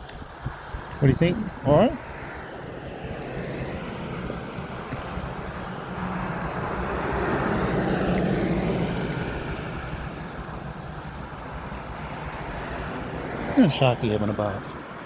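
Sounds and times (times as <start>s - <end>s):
passing vehicle engine rumble: 0.2s - 15.0s.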